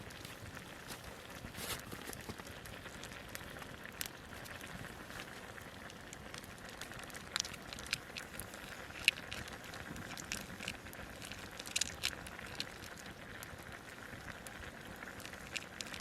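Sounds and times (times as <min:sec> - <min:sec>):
campfire crackling and hissing: 0:00.0 - 0:16.0.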